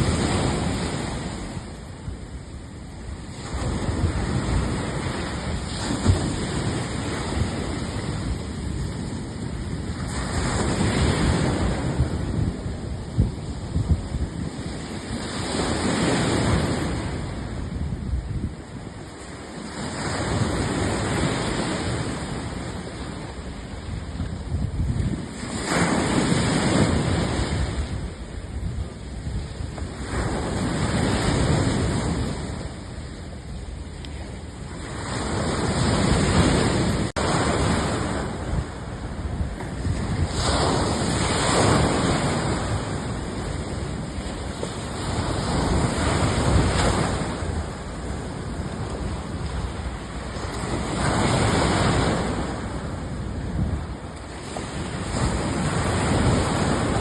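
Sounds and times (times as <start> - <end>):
waves washing in: 0.0 - 57.0
wind buffeting the microphone: 0.0 - 57.0.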